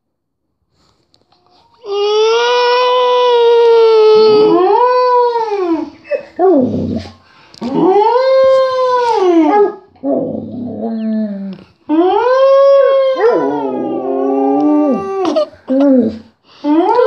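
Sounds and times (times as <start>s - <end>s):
dog whining and grumbling: 1.8s - 17.0s
dog howling: 1.9s - 17.0s.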